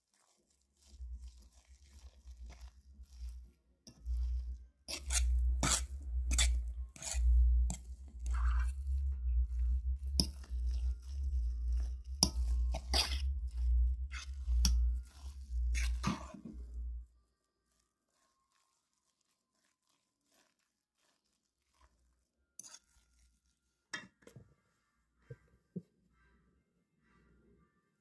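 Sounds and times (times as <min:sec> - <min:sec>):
squishy mashing strokes: 0:00.0 - 0:23.9.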